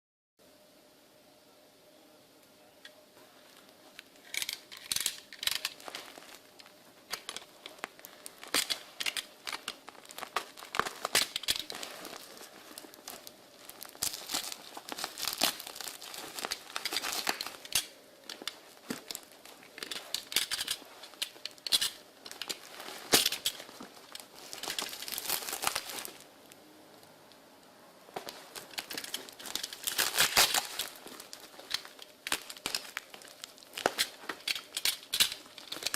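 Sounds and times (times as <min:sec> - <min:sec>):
packaging crinkling and tearing: 0:04.1 - 0:26.6, 0:28.1 - 0:35.9.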